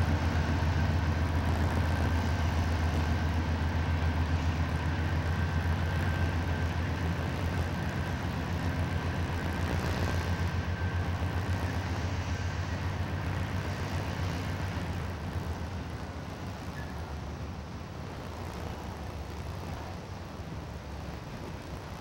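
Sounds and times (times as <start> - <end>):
freight train rumbling over bridge: 0.0 - 18.4
faint high whine: 0.0 - 22.0
wheels pulsing over rails: 0.0 - 22.0.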